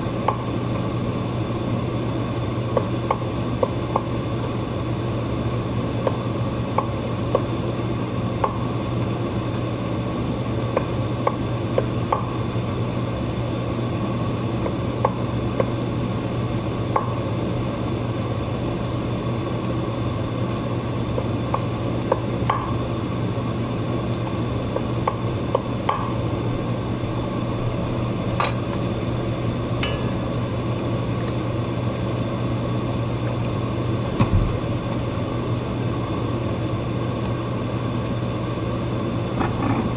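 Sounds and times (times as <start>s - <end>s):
background hum and hiss: 0.0s - 39.9s.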